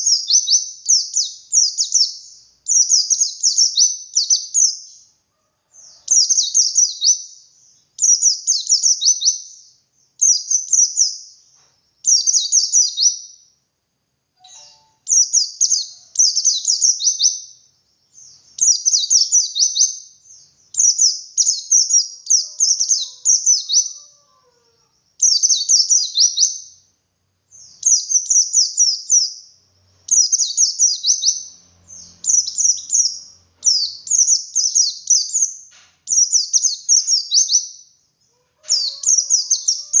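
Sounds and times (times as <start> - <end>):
bird twittering song: 0.0 - 5.2, 5.8 - 13.6, 14.4 - 40.0.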